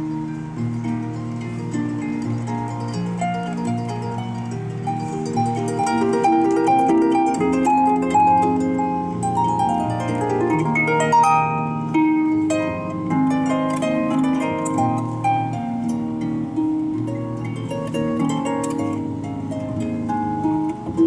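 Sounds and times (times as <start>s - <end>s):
harp playing a waltz: 0.0s - 21.0s.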